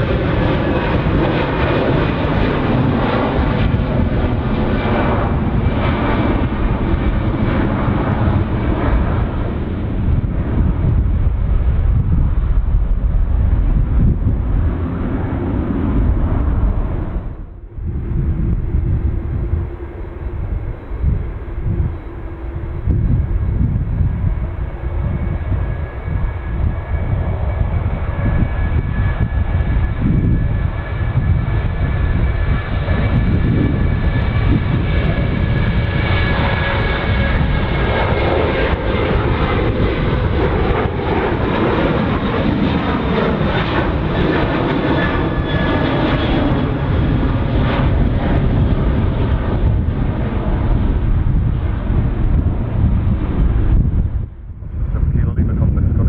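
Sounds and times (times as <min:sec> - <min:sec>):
jet airliner engines whining: 0:00.0 - 0:56.0.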